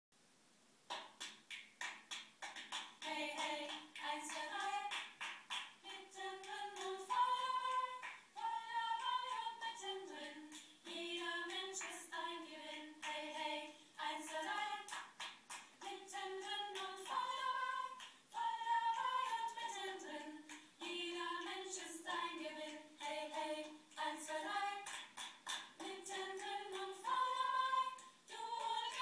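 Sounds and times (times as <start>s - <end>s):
hand claps: 0.9s - 8.3s, 9.0s - 12.2s, 13.0s - 13.4s, 14.2s - 18.2s, 19.0s - 29.0s
group singing a cappella: 3.0s - 29.0s.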